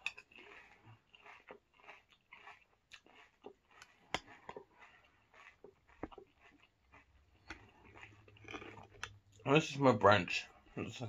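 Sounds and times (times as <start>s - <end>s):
person chewing crunchy cereal: 0.0s - 11.0s.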